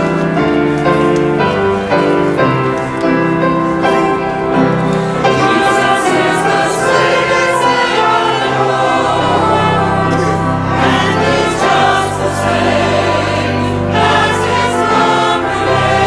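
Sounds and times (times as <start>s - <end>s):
choir singing gospel: 0.0s - 16.0s.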